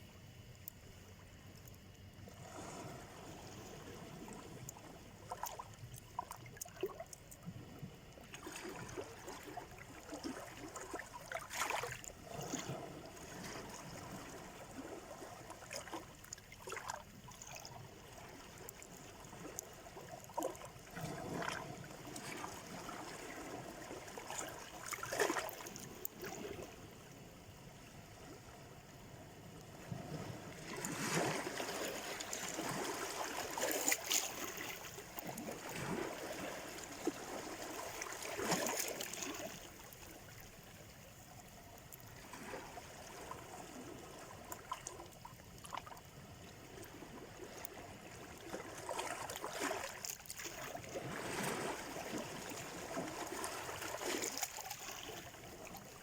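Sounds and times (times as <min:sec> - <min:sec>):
small waves washing on shore: 0:02.3 - 0:56.0.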